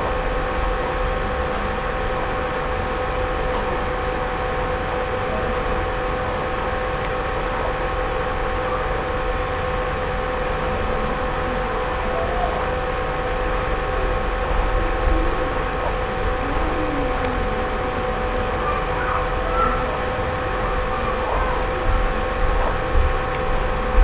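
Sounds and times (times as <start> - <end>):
hum and hiss: 0.0 - 24.0.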